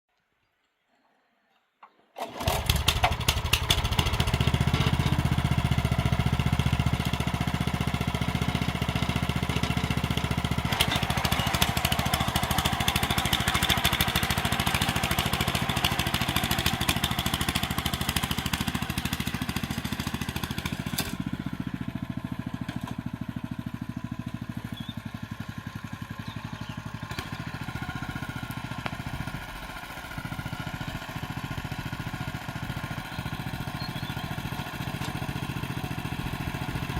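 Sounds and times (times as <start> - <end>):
tiller petrol engine running: 2.2 - 36.9.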